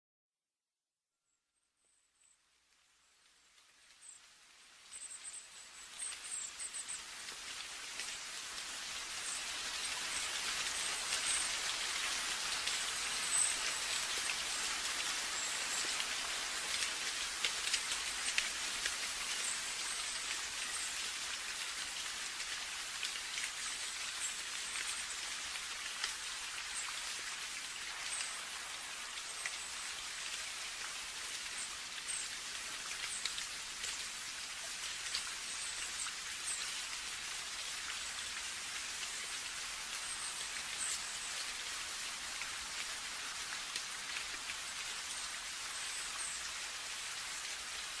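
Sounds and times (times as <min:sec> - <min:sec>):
steady rain hiss: 0:02.2 - 0:48.0
raindrops pattering on a surface: 0:02.6 - 0:48.0.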